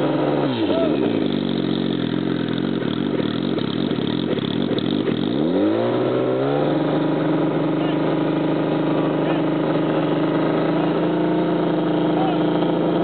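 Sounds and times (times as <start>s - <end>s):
motorcycle engine idling: 0.0s - 5.5s, 6.8s - 13.0s.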